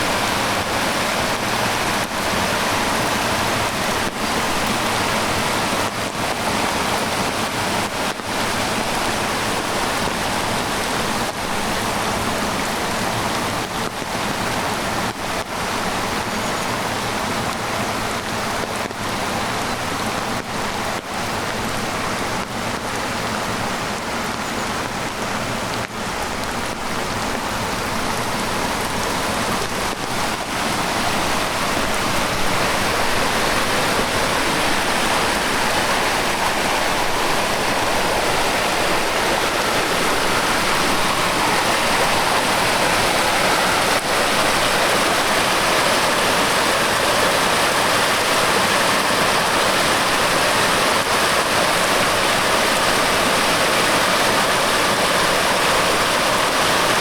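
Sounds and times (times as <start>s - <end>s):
heavy rain falling: 0.0s - 57.0s
stream rushing: 0.0s - 57.0s.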